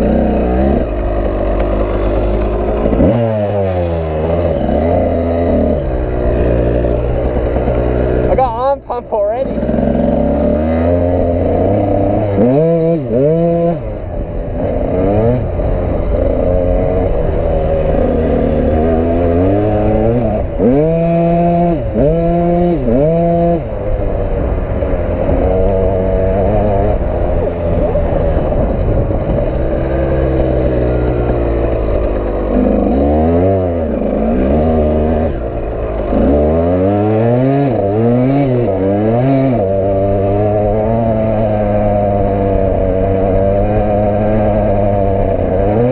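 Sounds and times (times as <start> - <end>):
two-stroke dirt bike engine revving: 0.0 - 45.9.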